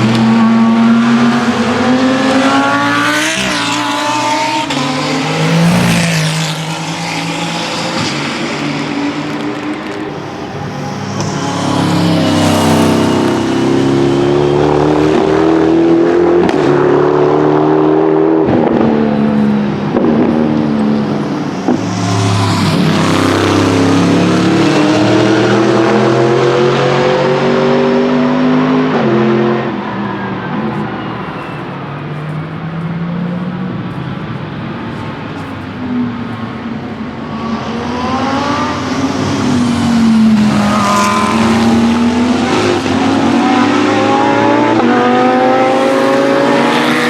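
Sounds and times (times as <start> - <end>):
race cars passing at speed: 0.0 - 47.0.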